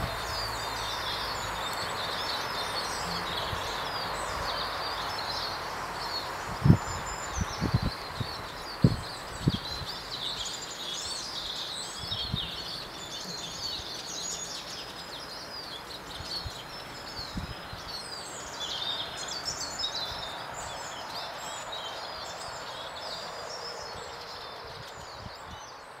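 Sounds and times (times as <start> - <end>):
outdoor background noise: 0.0 - 26.0
songbirds chirping and trilling: 0.0 - 26.0.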